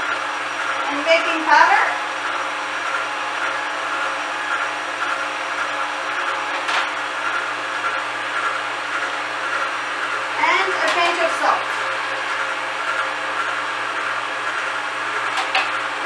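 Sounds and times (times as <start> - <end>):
kitchen mixer running: 0.0 - 16.0.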